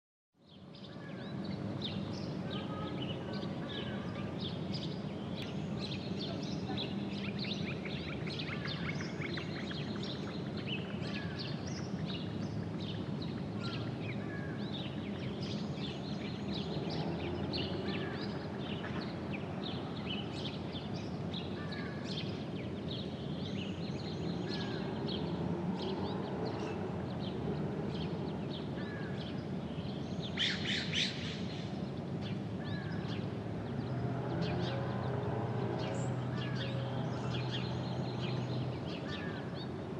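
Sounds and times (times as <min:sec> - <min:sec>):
low outdoor background hum: 0:00.4 - 0:39.9
small birds chirping: 0:00.4 - 0:39.9.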